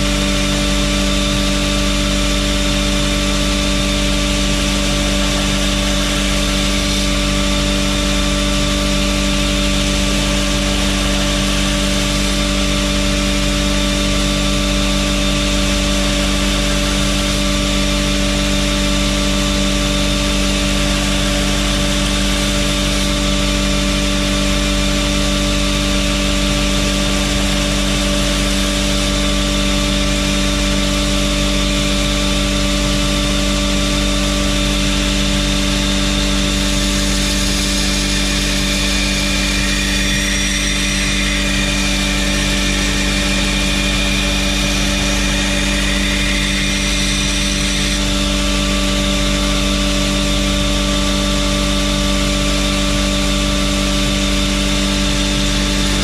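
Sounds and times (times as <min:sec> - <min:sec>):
high whines: 0:00.0 - 0:56.0
belt grinder grinding steel: 0:02.8 - 0:32.0, 0:35.2 - 0:56.0.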